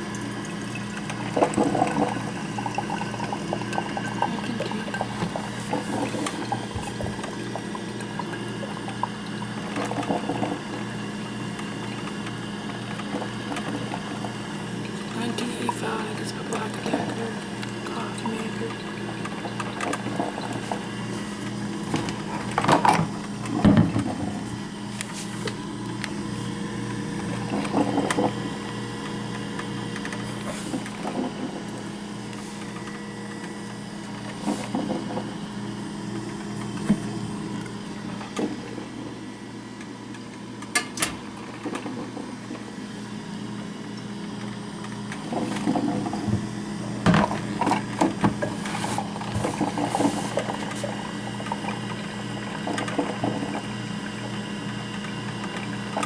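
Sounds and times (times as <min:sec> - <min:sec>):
coffee maker humming: 0:00.0 - 0:56.0.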